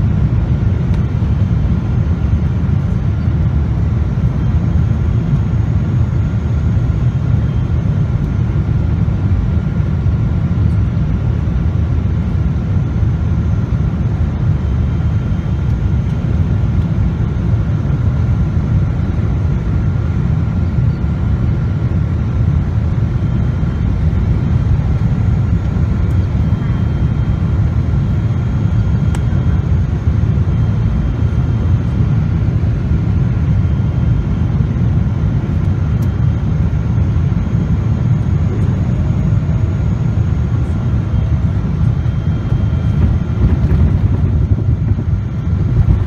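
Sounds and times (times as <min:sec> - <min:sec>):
faint high whine: 0:00.0 - 0:46.0
low rumble of engines and airflow: 0:00.0 - 0:46.0.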